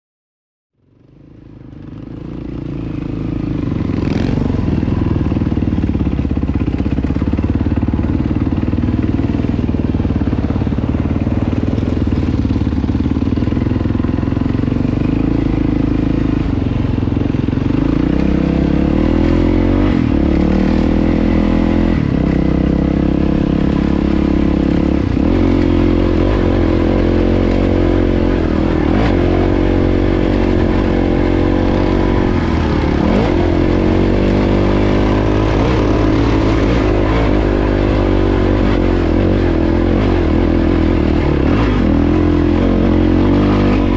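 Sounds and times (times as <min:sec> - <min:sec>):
dirt bike engine running: 0:00.8 - 0:43.9.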